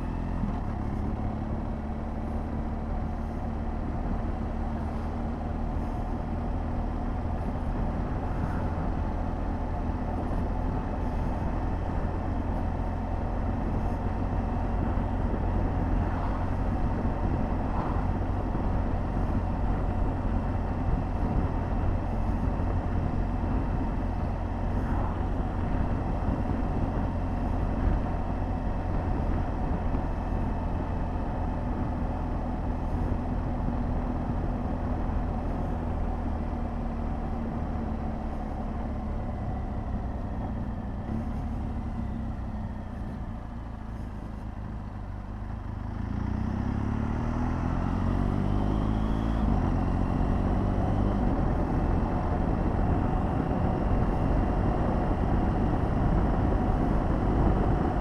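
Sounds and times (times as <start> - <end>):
wind noise: 0.0 - 42.2, 42.8 - 58.0
motorcycle engine: 0.0 - 58.0.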